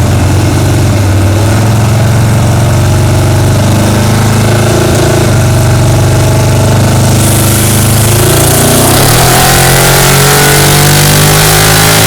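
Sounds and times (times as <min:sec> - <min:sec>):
car engine running on dynamometer: 0:00.0 - 0:12.0.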